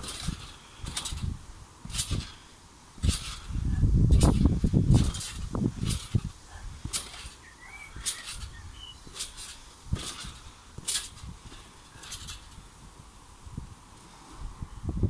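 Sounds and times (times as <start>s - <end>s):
thuds landing on trampoline: 0.0s - 13.0s
trampoline spring creaks: 0.0s - 13.1s.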